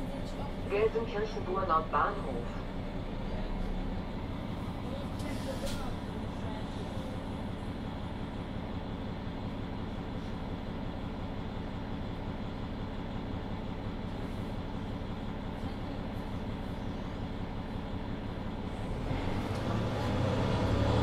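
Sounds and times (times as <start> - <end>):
bus engine running: 0.0 - 21.0.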